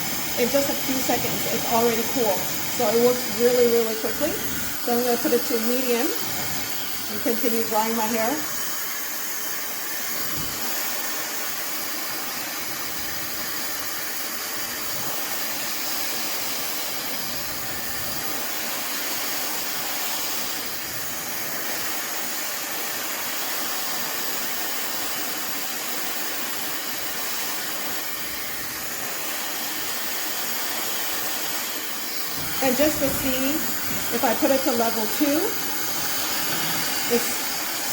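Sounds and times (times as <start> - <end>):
hair dryer blowing air: 0.0 - 37.9.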